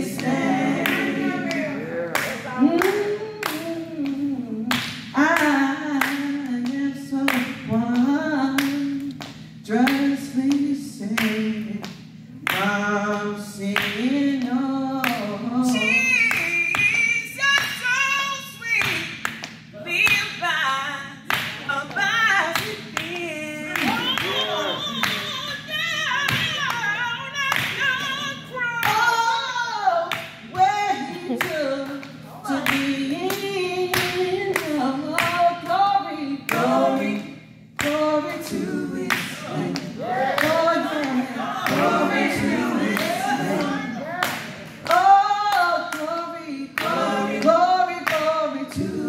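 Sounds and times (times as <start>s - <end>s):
women singing a cappella: 0.0s - 11.8s, 12.5s - 19.1s, 19.8s - 44.0s, 44.8s - 49.0s
hand claps: 0.2s - 15.3s, 16.2s - 17.8s, 18.8s - 20.3s, 21.3s - 25.4s, 30.1s - 30.7s, 31.3s - 35.8s, 36.5s - 46.2s, 46.8s - 48.8s.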